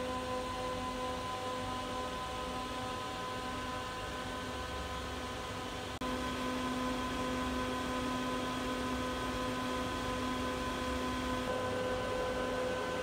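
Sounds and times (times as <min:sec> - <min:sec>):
electrical hum of machinery: 0:00.0 - 0:13.0.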